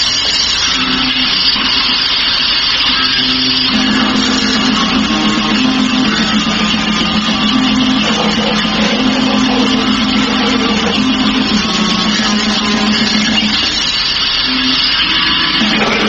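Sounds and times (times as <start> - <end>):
noisy guitar: 0.0 - 16.0
low droning note: 2.8 - 16.0.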